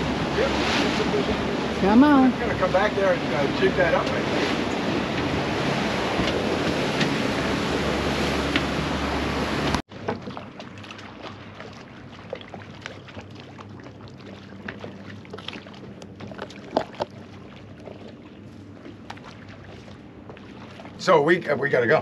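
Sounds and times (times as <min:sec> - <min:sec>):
water slapping against hull: 0:00.0 - 0:22.0
wind and wake rushing: 0:00.0 - 0:22.0.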